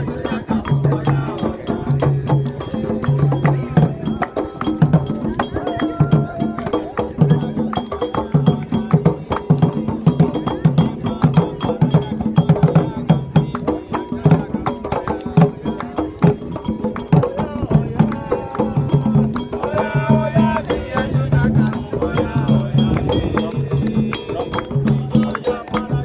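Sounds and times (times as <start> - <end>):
hand drums playing fast rhythm: 0.0 - 26.0
person singing: 0.0 - 26.0.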